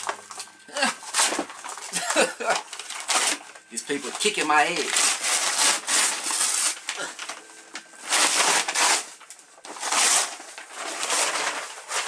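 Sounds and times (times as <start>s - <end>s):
paper wrapping rustling: 0.0s - 12.0s.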